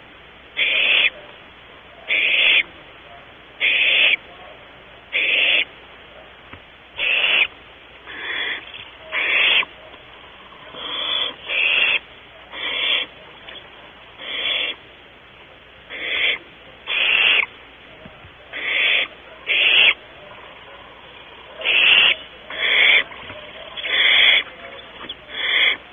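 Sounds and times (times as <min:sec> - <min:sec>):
owlet hissing calls: 0:00.0 - 0:04.4, 0:05.0 - 0:05.8, 0:07.0 - 0:17.8, 0:18.4 - 0:25.9.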